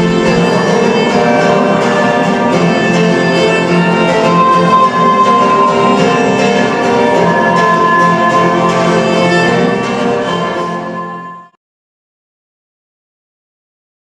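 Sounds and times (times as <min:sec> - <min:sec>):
string ensemble playing slow music: 0:00.0 - 0:11.4.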